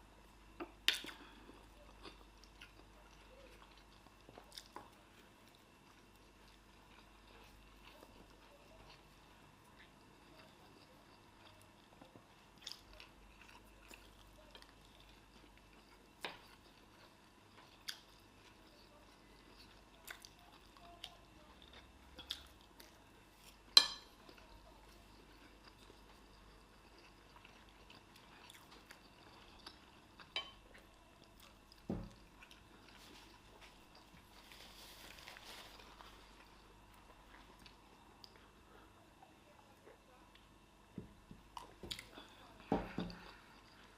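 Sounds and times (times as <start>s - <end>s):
people chewing: 0.5s - 43.9s.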